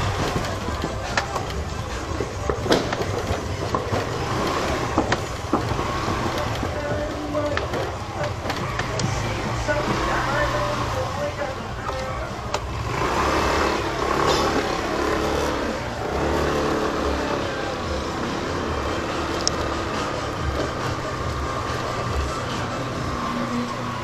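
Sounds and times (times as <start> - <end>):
motorbike engine running: 0.0 - 24.0
road and wind noise: 0.0 - 24.0.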